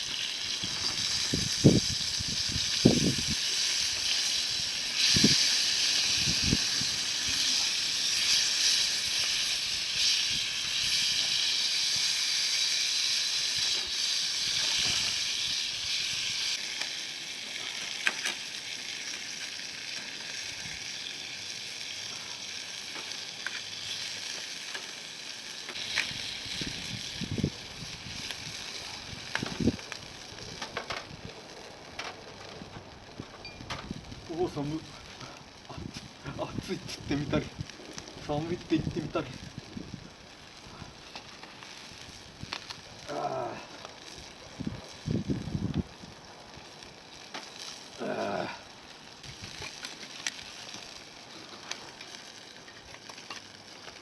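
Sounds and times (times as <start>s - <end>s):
bonfire hissing and crackling: 0.0s - 54.0s.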